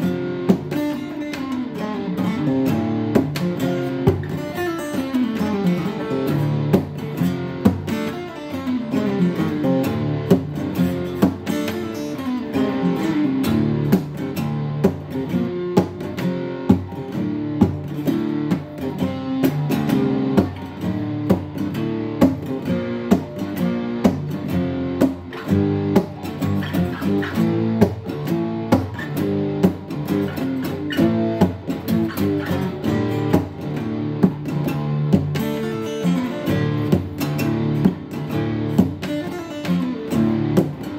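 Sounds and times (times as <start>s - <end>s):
acoustic guitar picking: 0.0s - 40.9s.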